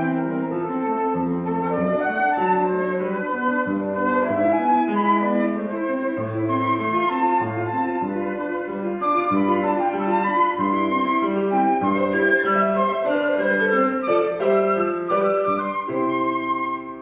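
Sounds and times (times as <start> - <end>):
live classical music: 0.0 - 17.0.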